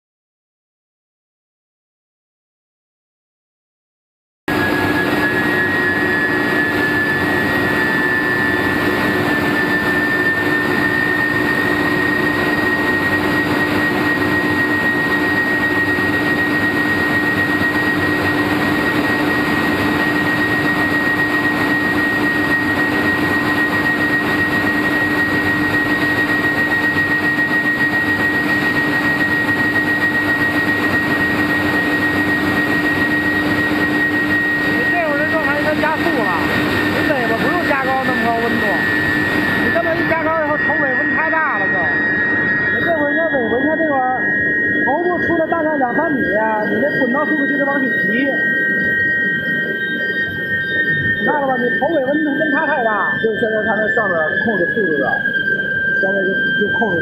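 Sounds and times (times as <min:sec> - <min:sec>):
furnace high-pitched whine: 0:04.5 - 0:57.0
low hum: 0:04.5 - 0:57.0
machine noise: 0:04.5 - 0:57.0.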